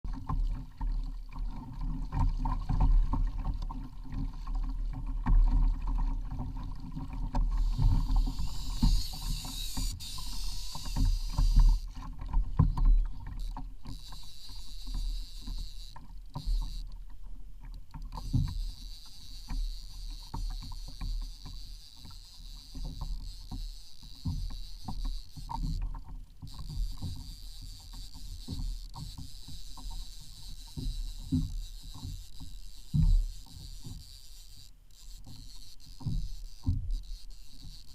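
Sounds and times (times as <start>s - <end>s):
water lapping against hull: 0.1s - 37.9s.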